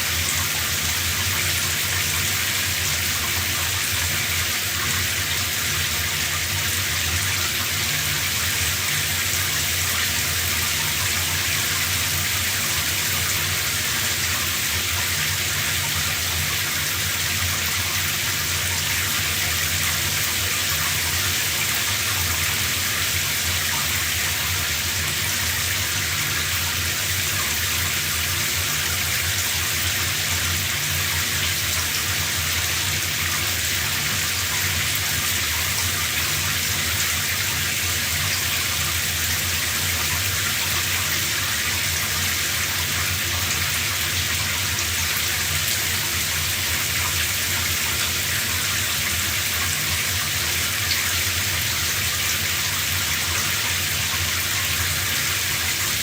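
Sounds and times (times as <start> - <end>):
shower spray running: 0.0 - 56.0.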